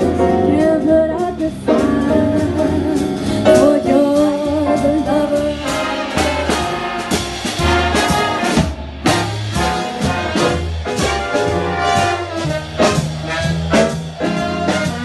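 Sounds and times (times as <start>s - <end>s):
big band swing music: 0.0s - 15.0s.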